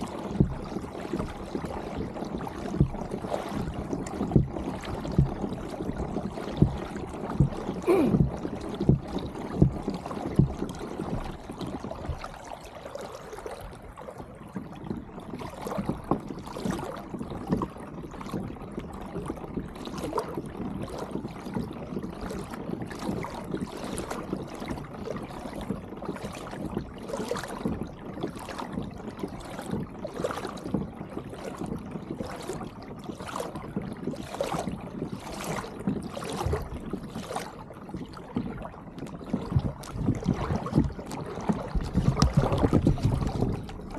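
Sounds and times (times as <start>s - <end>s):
small water splashes: 0.0s - 43.9s
water lapping against kayak hull: 0.0s - 43.9s.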